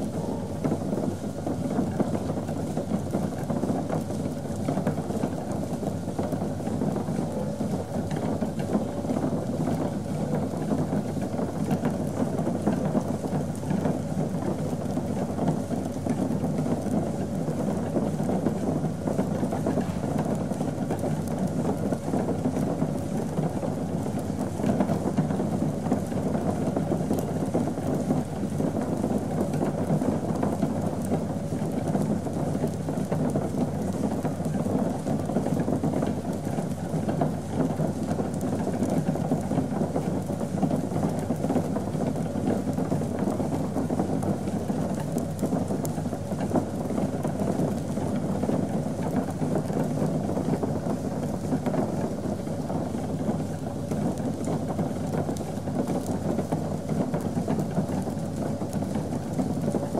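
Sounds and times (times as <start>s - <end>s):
brewing equipment crackling rush: 0.0s - 59.9s.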